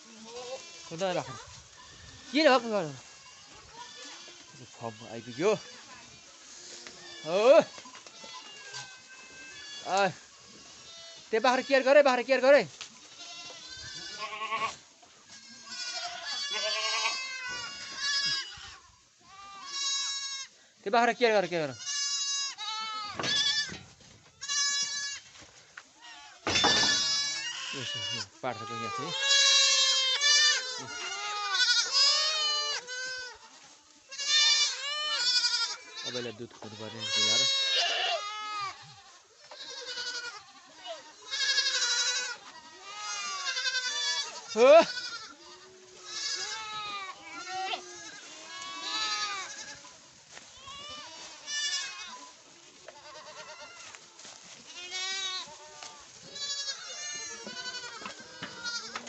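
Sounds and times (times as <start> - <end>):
goat kids bleating: 0.0 - 59.0.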